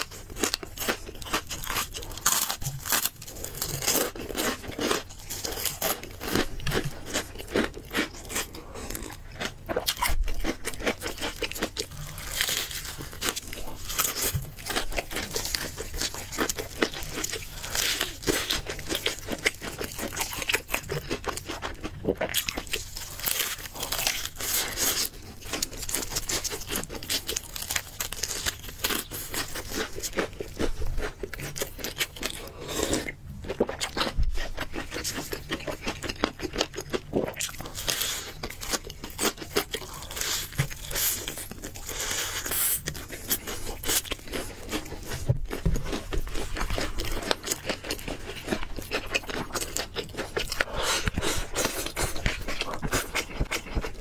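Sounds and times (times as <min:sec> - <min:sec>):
crunching and chewing fried chicken: 0:00.0 - 0:54.0.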